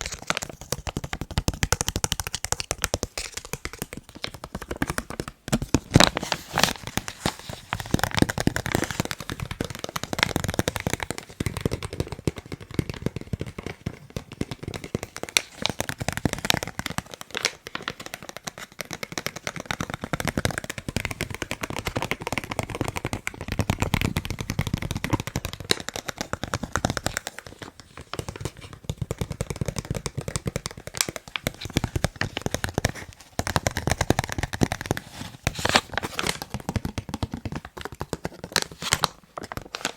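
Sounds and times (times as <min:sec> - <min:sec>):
fingers tapping on face mask: 0:00.0 - 0:39.9.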